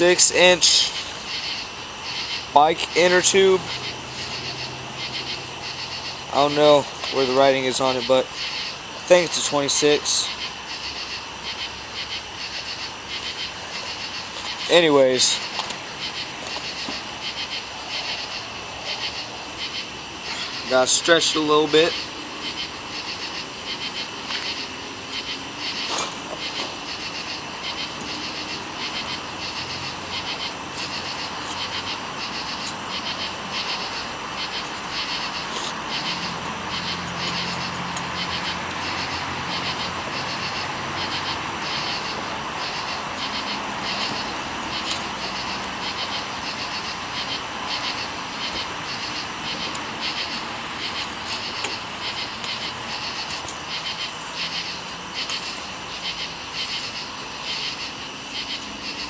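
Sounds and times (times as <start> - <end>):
insects or frogs chirping: 0.0 - 59.0.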